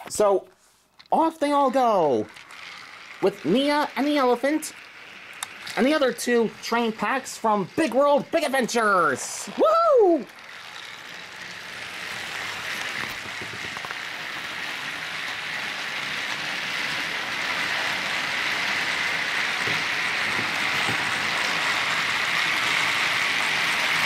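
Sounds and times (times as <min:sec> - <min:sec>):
toy trains motors whirring: 0:00.0 - 0:24.0.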